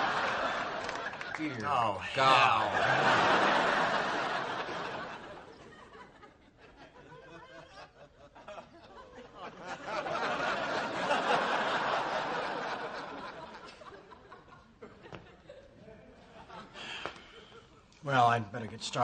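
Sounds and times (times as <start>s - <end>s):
studio audience laughing: 0.0s - 17.8s.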